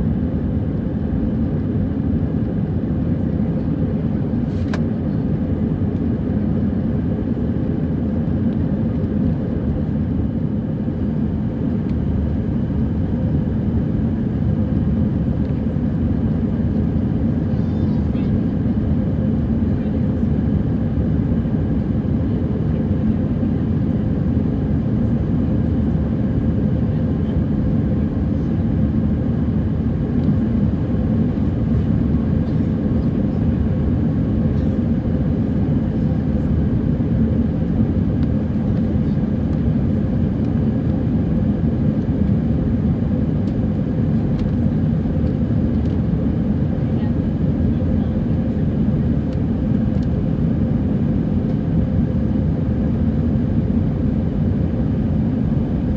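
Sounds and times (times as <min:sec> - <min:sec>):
jet engine drone: 0:00.0 - 0:55.9.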